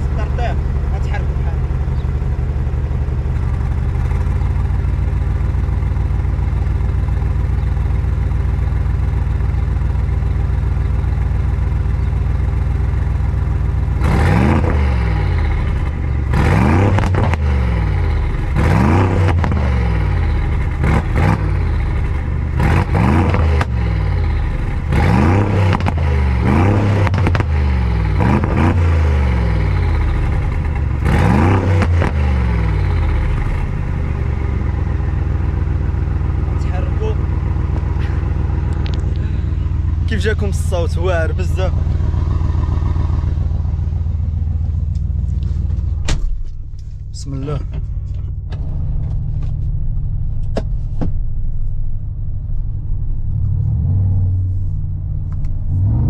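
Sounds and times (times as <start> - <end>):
car engine idling: 0.0 - 56.0
engine throttle blips: 0.0 - 56.0.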